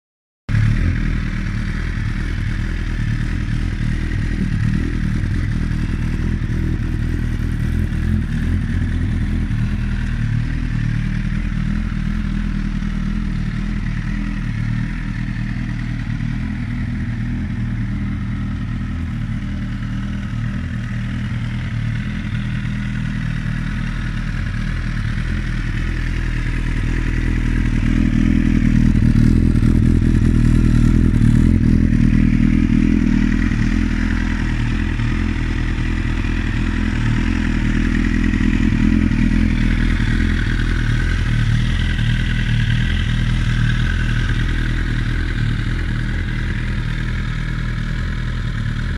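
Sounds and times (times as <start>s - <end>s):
motorcycle engine idling: 0.5s - 48.9s.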